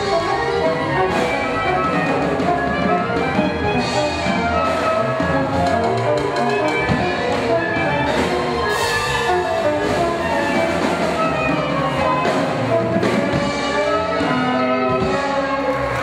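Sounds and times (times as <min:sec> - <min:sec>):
drums: 0:00.0 - 0:16.0
live band music: 0:00.0 - 0:16.0.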